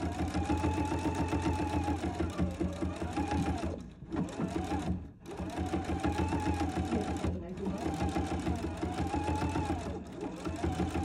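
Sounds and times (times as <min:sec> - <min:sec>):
sewing machine running fast: 0:00.0 - 0:11.0.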